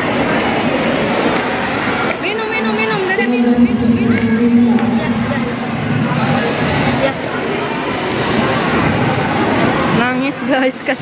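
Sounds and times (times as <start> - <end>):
crowd babble in a hall: 0.0 - 11.0.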